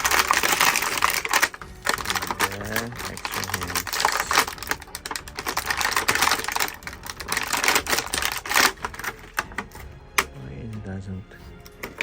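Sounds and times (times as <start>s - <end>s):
plastic packaging crackling: 0.0s - 9.8s, 11.6s - 12.0s.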